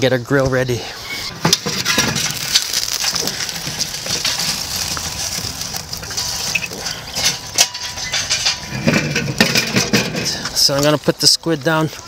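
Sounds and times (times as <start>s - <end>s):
charcoal tumbling and crackling: 1.3s - 12.0s.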